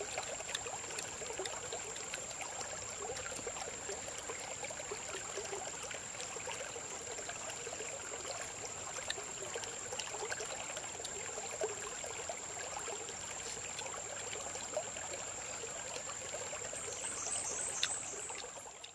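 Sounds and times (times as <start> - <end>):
creek trickling over stones: 0.0 - 18.9.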